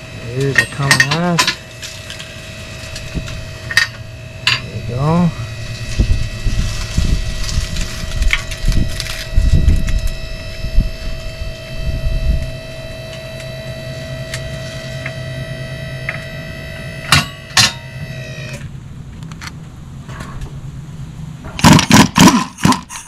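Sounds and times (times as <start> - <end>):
pump motor whining: 0.0 - 18.8.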